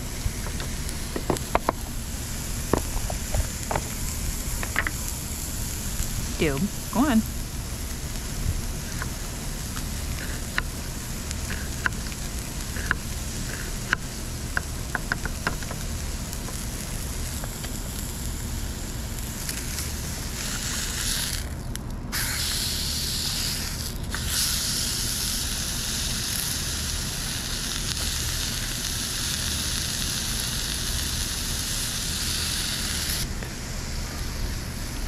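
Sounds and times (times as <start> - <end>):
patty sizzling in frying pan: 0.0 - 35.0.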